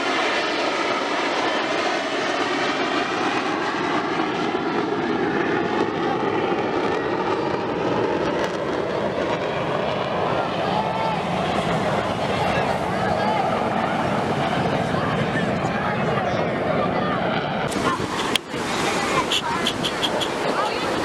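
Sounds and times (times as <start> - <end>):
jet aircraft flying past: 0.0 - 21.0.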